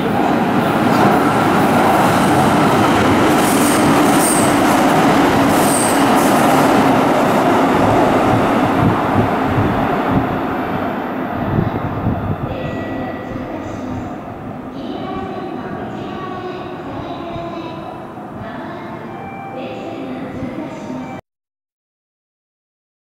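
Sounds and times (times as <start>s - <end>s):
electric train rushing past: 0.0s - 21.2s.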